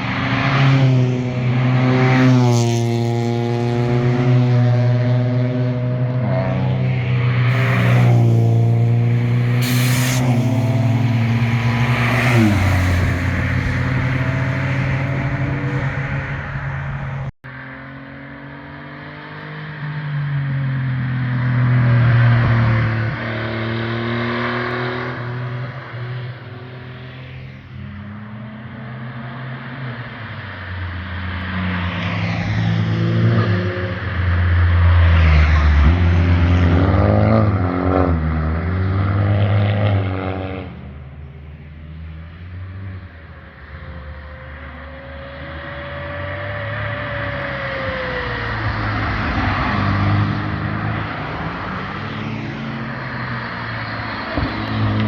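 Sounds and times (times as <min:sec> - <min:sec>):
cars revving past: 0:00.0 - 0:55.0.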